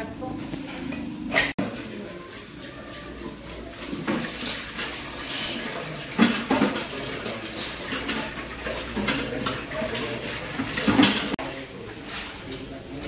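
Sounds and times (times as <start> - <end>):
dishes clinking and clattering: 0.5 - 13.0
running tap water: 1.6 - 13.0.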